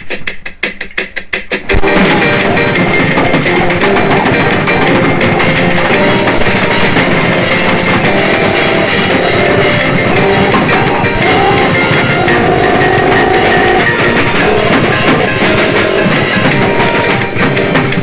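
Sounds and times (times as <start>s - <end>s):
non-rhythmic drum noise: 0.0s - 18.0s
pounding drums: 0.0s - 18.0s
bass: 1.6s - 18.0s
guitar melody: 1.7s - 18.0s.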